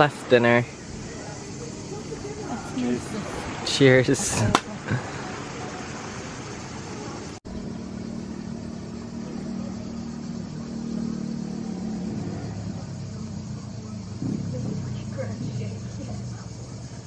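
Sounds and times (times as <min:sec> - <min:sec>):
background noise: 0:00.0 - 0:17.0.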